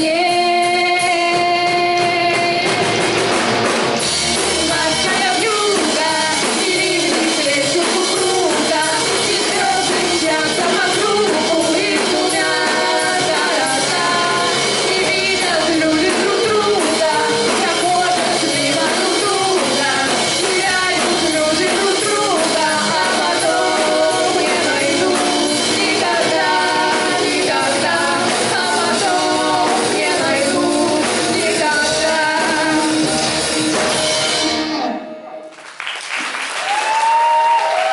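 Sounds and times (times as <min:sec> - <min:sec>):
rock band playing live: 0:00.0 - 0:35.6
bending melodic lead line: 0:01.2 - 0:35.5.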